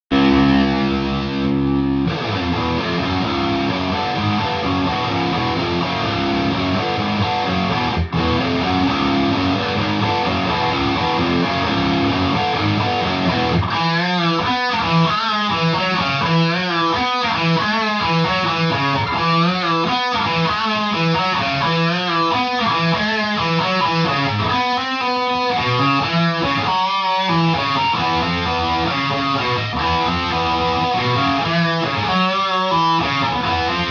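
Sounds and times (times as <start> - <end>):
electric guitar chords and riff: 0.1 - 33.9.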